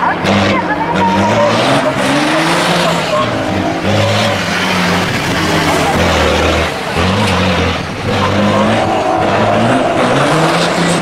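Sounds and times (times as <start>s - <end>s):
truck diesel engine revving: 0.0s - 11.0s.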